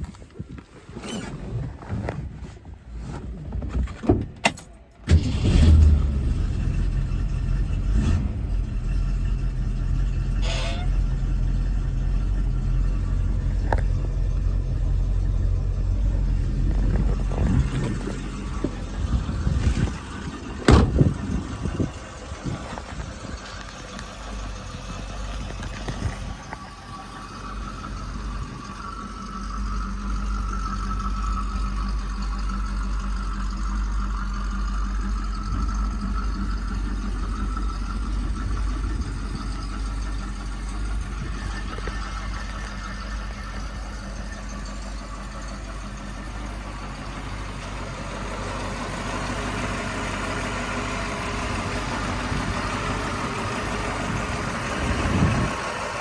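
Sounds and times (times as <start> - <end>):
car engine idling: 4.6 - 56.0.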